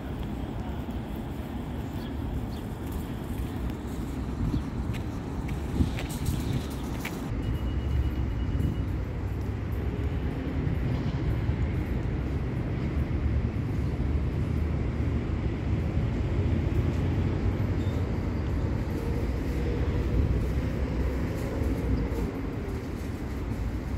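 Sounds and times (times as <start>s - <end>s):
low rumble of traffic: 0.0s - 23.9s.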